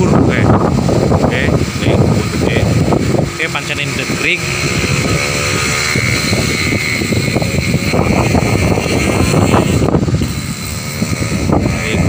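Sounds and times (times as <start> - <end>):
gusting wind on microphone: 0.0 - 12.0.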